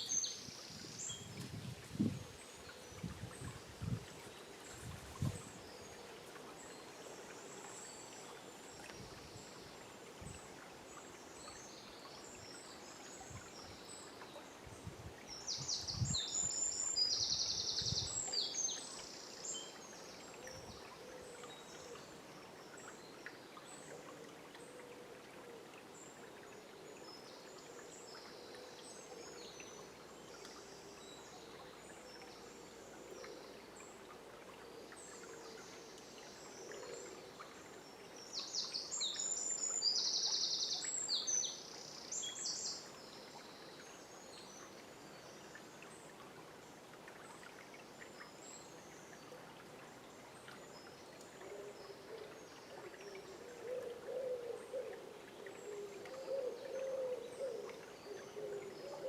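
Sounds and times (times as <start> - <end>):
river water running: 0.0 - 59.0.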